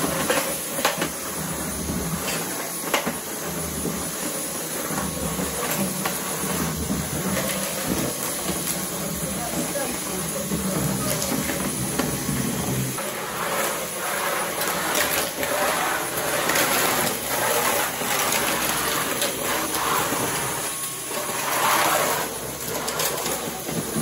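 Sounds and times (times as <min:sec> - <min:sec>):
vacuum cleaner on concrete floor: 0:00.0 - 0:24.0.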